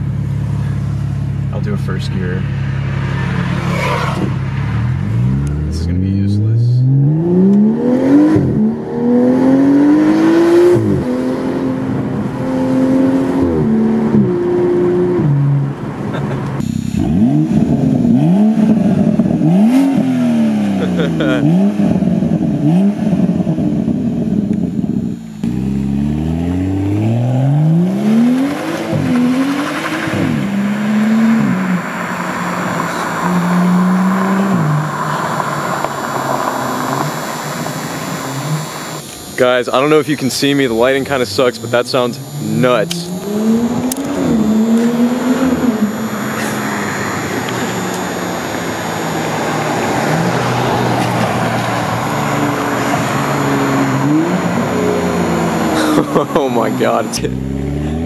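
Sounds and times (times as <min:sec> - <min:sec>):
car engine revving loudly: 0:00.0 - 0:58.0.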